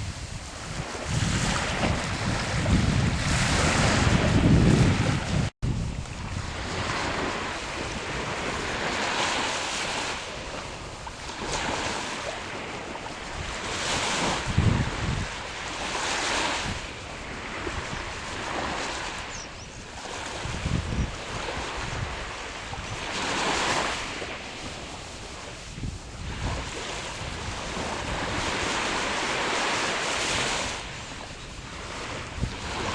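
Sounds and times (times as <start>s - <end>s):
small waves washing onto beach: 0.0s - 32.9s
wind rumble on microphone: 0.0s - 32.9s.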